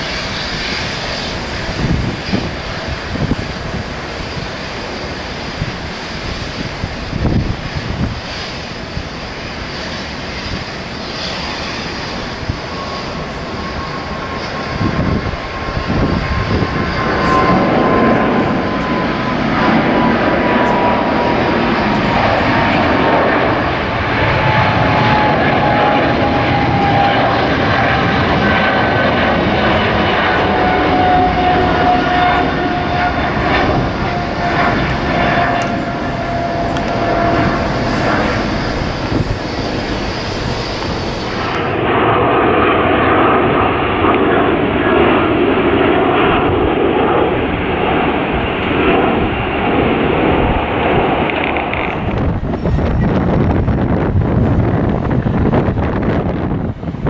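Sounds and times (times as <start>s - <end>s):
jet engine roar with whine: 0.0s - 57.0s.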